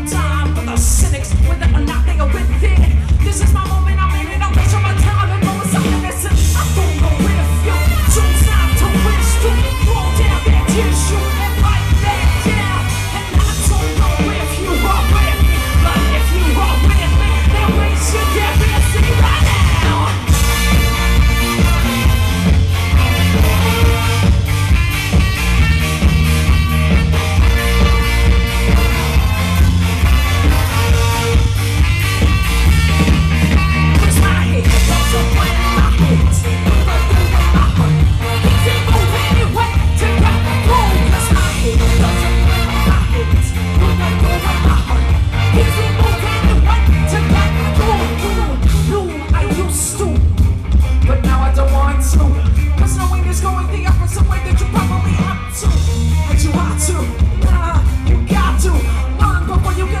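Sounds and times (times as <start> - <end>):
driving drums: 0.0 - 60.0
heavy bass line: 0.0 - 60.0
live band playing loud music: 0.0 - 60.0.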